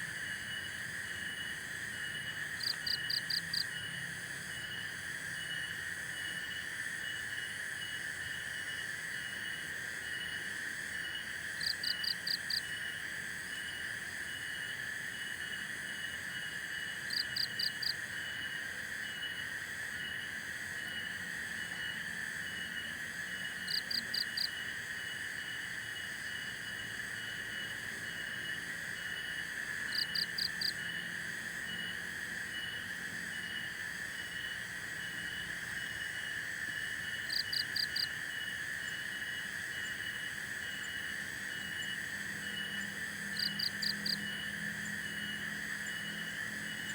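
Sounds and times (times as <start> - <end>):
insects and frogs droning: 0.0 - 46.9.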